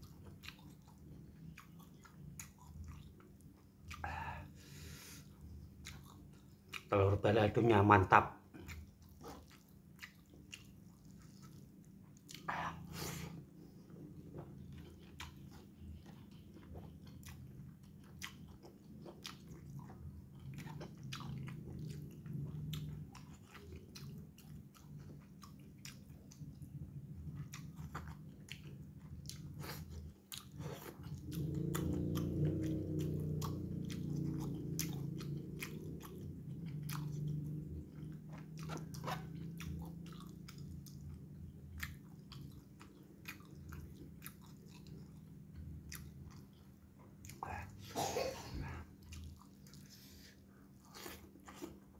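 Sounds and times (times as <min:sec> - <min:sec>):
chewing food: 0:00.0 - 0:47.9, 0:48.5 - 0:51.9.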